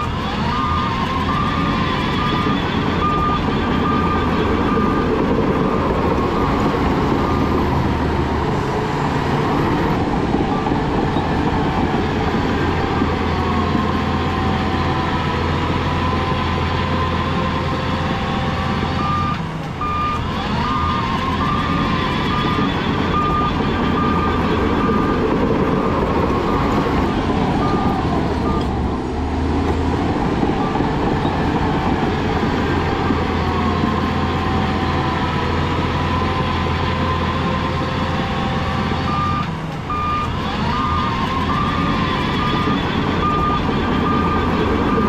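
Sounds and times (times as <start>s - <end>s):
diesel machinery engine drone: 0.0s - 45.0s
reversing alarm beeping: 0.0s - 45.0s.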